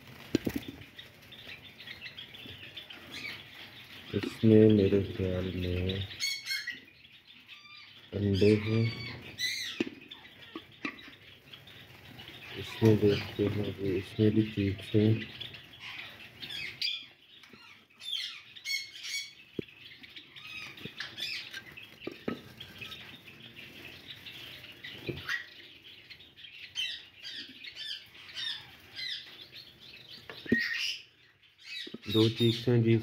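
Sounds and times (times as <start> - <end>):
sparrows chirping: 0.0 - 33.0.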